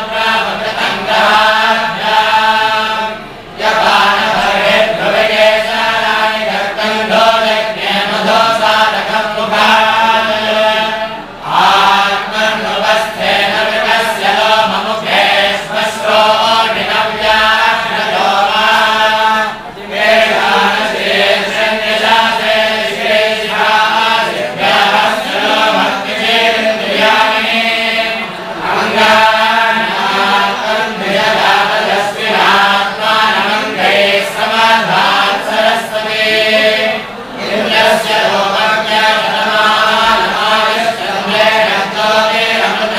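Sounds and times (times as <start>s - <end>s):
men chanting in unison: 0.0s - 42.9s.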